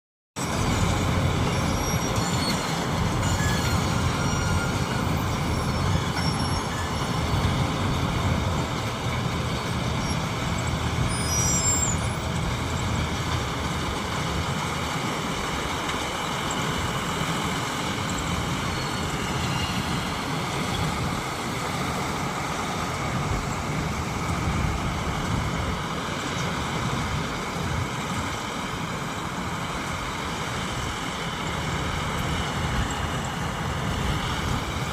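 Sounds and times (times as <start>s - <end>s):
combine harvester engine droning: 0.4s - 34.9s.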